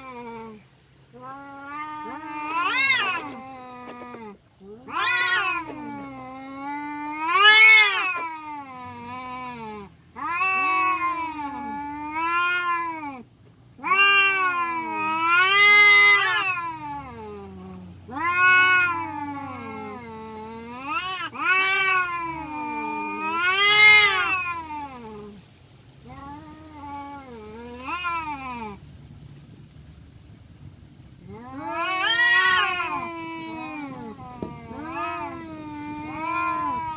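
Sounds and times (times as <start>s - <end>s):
cats yowling: 0.0s - 25.4s, 26.0s - 28.8s, 31.2s - 36.9s.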